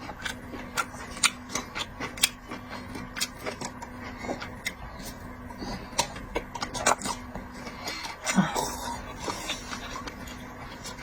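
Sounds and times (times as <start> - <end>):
chewing and handling seafood: 0.0 - 11.0
faint steady hum: 0.0 - 11.0.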